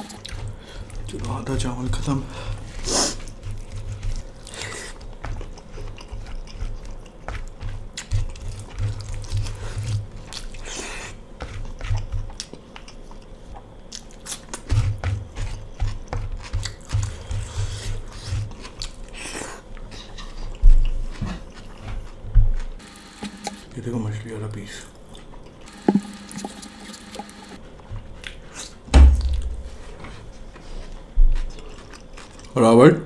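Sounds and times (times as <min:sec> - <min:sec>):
wet chewing and smacking: 0:00.0 - 0:22.8, 0:25.0 - 0:29.6, 0:31.3 - 0:32.6.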